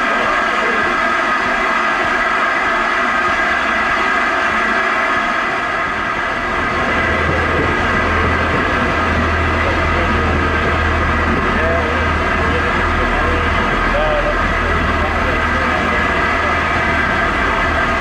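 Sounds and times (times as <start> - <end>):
low hum: 1.5 - 18.0.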